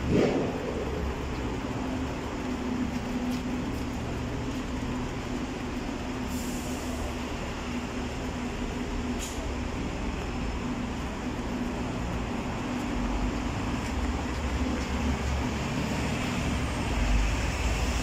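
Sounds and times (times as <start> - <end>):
low city hum: 0.0 - 18.0.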